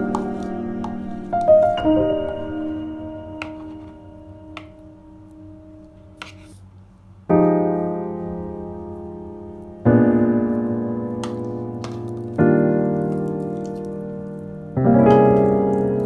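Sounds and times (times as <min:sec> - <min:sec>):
electric piano chords: 0:00.0 - 0:06.1, 0:07.3 - 0:16.0.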